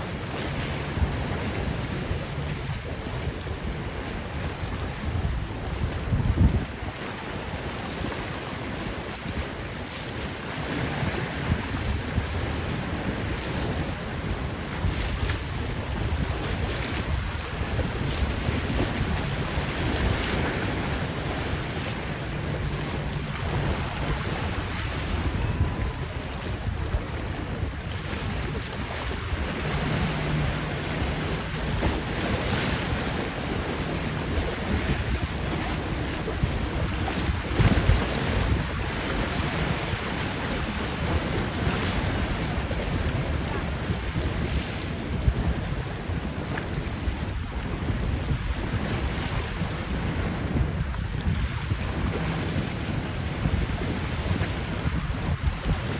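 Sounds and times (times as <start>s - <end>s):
boat engines humming: 0.0s - 55.9s
waves: 0.0s - 55.9s
wind buffeting microphone: 0.0s - 55.9s.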